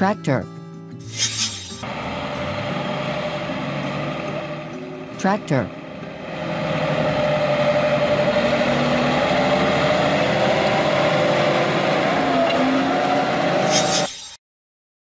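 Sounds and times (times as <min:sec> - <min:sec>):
tractor diesel engine running: 0:01.8 - 0:14.0.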